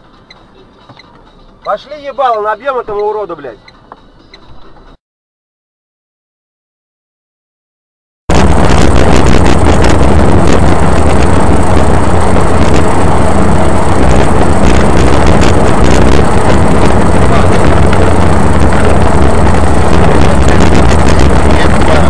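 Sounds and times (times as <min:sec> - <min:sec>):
car road and engine noise: 0:00.0 - 0:05.0, 0:08.3 - 0:22.0.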